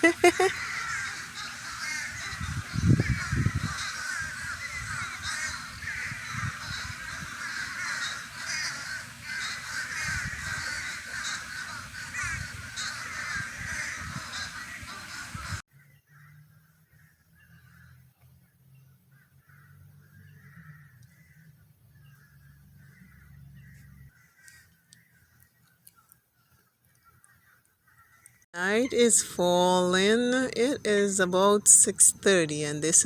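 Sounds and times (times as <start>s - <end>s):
crows calling: 0.2s - 18.0s, 19.1s - 28.4s.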